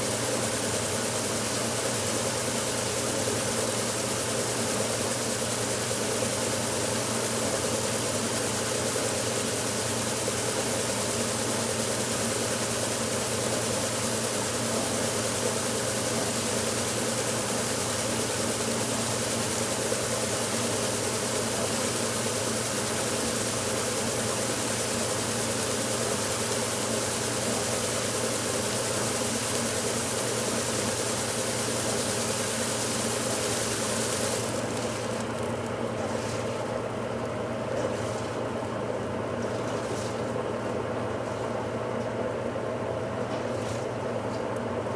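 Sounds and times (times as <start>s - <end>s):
washing machine running: 0.0s - 44.9s.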